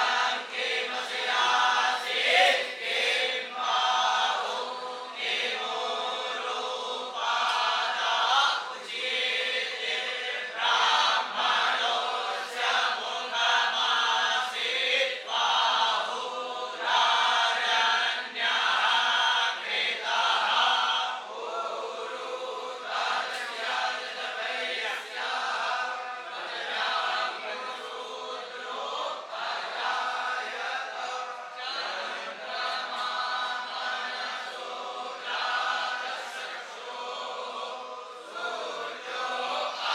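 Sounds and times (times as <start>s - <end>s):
group chanting in unison: 0.0s - 39.9s.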